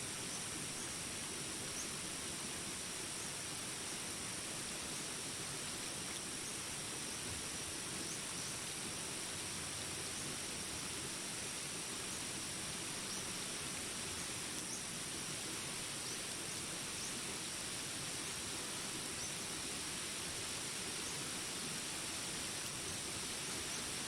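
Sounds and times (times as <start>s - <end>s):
insect drone: 0.0s - 24.0s
rain hiss: 0.0s - 24.0s.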